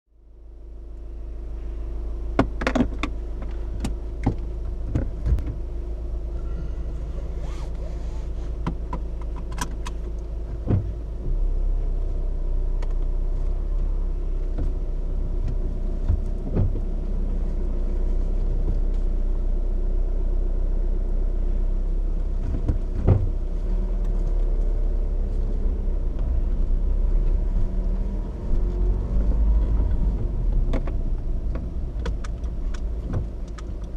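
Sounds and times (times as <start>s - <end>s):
diesel engine rumble: 0.1s - 33.9s.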